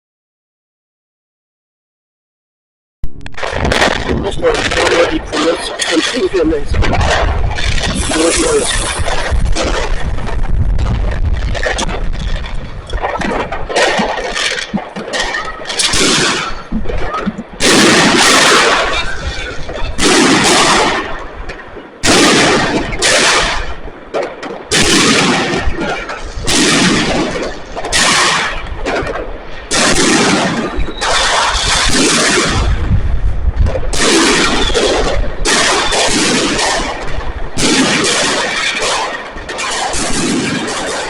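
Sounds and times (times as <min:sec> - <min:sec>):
fireworks bangs and crackling: 0:03.0 - 0:41.0.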